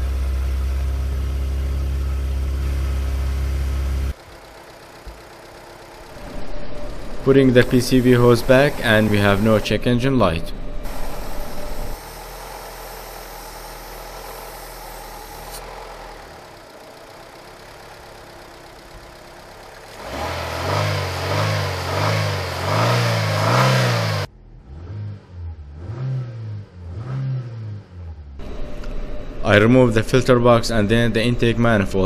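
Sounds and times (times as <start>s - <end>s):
petrol engine revving: 0.0s - 31.6s.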